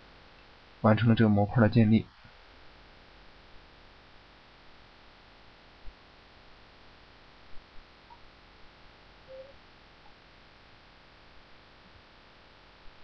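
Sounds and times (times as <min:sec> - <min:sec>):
microphone hiss and hum: 0:00.0 - 0:13.0.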